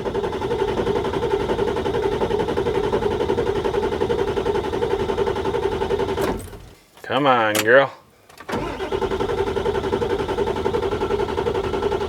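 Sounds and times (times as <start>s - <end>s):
starter motor cranking diesel engine: 0.0s - 12.0s.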